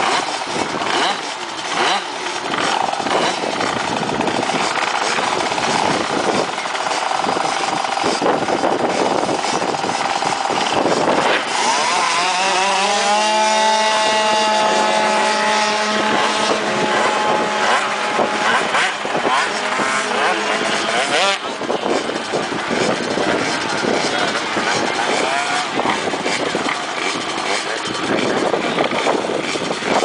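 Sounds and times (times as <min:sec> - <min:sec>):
high-pitched engine wail: 0:00.0 - 0:30.0
mopeds revving: 0:00.0 - 0:30.0.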